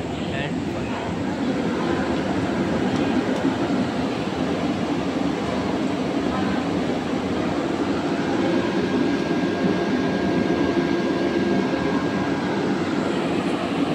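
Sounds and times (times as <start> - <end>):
trains rumbling and humming: 0.0 - 13.9.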